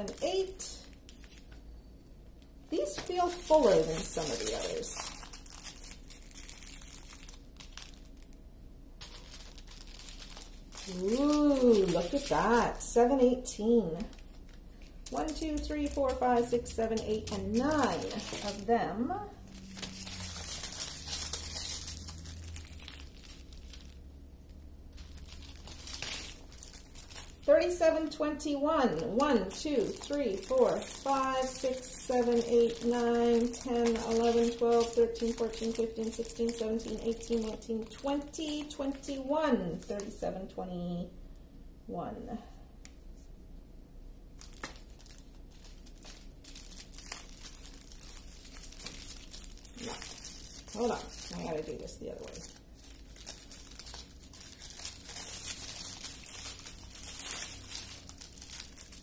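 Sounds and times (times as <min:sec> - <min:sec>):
plastic bags crinkling: 0:00.0 - 0:01.7, 0:02.4 - 0:08.4, 0:09.0 - 0:40.2, 0:44.4 - 0:59.0.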